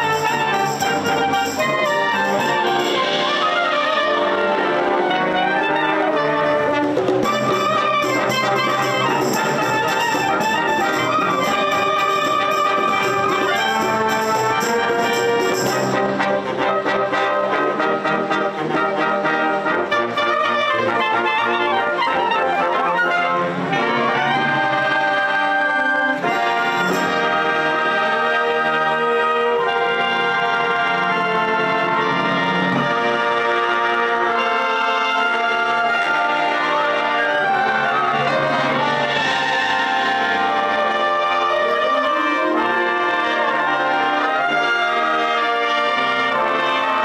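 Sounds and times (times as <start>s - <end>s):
brass band playing held notes: 0.0s - 47.0s.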